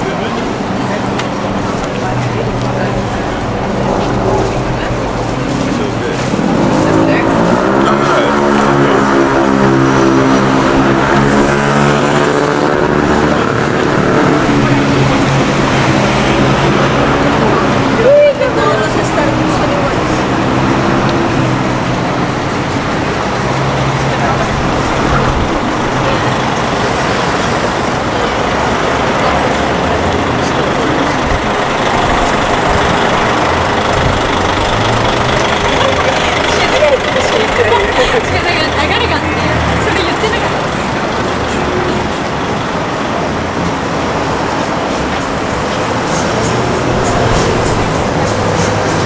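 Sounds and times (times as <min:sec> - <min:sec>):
street traffic: 0:00.0 - 0:49.0
vehicle engine droning: 0:00.0 - 0:49.0.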